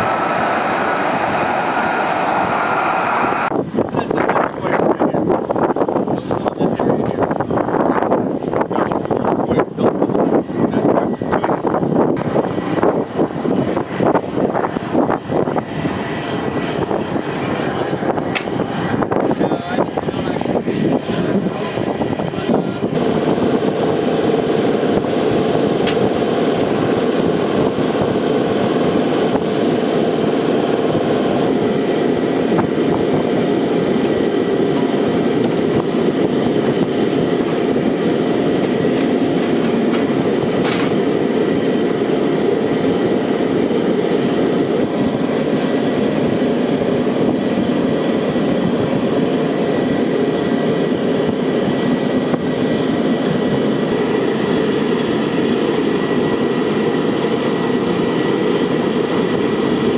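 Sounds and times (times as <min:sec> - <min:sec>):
jet engine high whine: 0:00.0 - 0:59.9
jet engines rumbling: 0:00.0 - 0:59.9.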